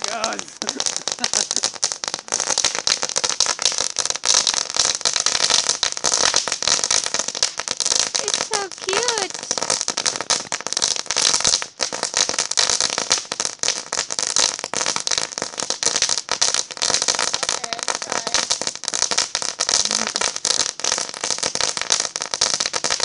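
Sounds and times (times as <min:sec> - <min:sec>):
firework crackling: 0:00.0 - 0:23.0.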